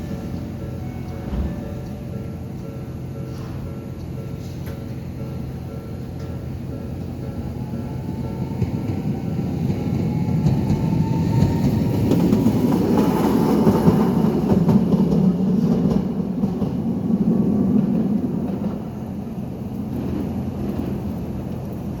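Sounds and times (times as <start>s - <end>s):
tram running noise: 0.0s - 22.0s.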